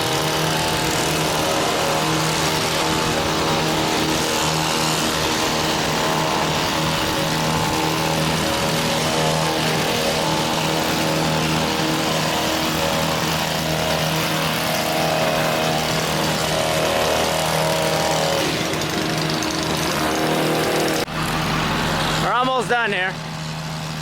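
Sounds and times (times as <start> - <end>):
hedge trimmer running: 0.0 - 24.0.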